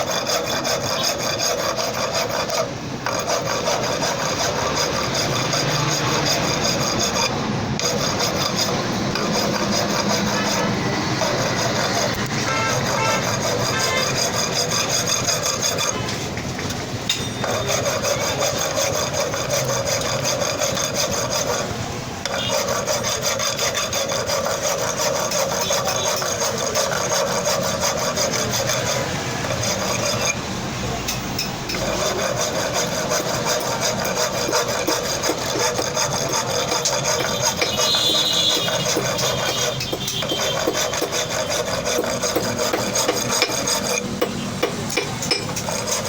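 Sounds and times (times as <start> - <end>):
hand file rasping on metal: 0.0 - 30.5, 31.1 - 46.0.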